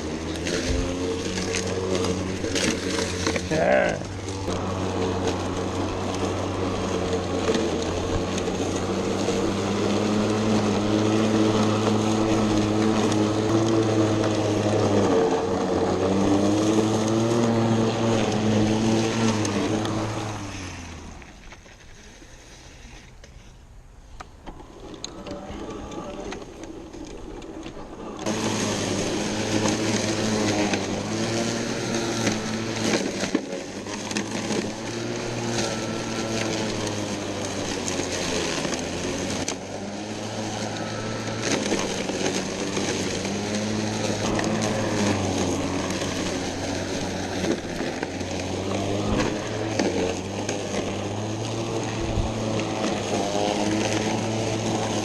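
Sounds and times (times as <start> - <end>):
electric lawn mower running: 0.0 - 23.4, 24.0 - 55.0.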